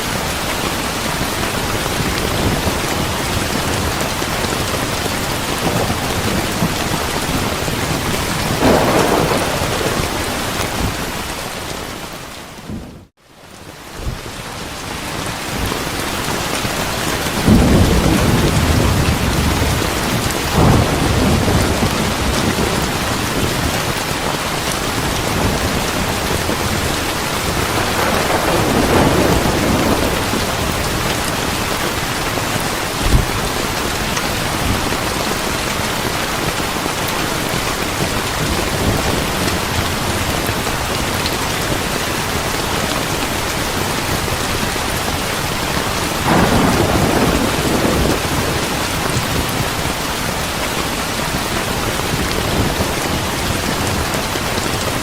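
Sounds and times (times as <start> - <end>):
heavy rain: 0.0 - 55.0
thunder rumbling: 1.2 - 13.1, 16.7 - 43.4, 45.0 - 54.8.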